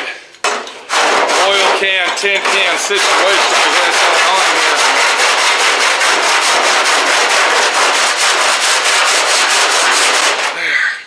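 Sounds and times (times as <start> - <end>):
file rasping across sheet steel: 0.9 - 10.6.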